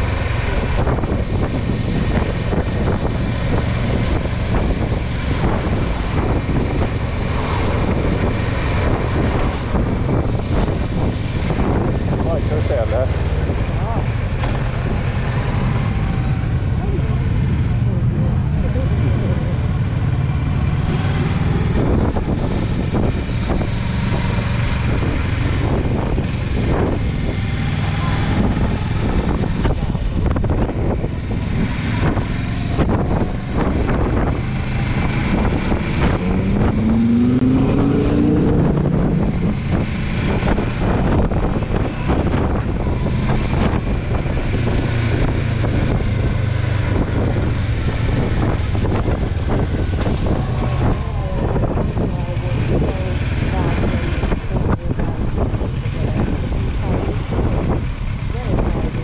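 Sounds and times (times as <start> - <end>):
vehicle low rumble: 0.0 - 59.0
wind buffeting microphone: 0.0 - 59.0.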